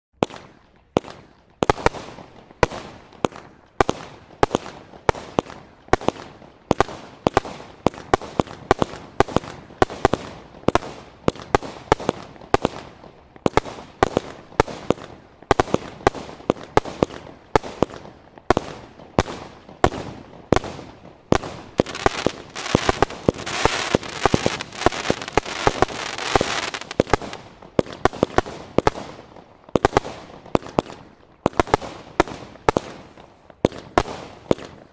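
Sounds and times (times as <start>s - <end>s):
firework bangs: 0.2s - 34.9s
firework crackling hiss: 1.6s - 34.9s.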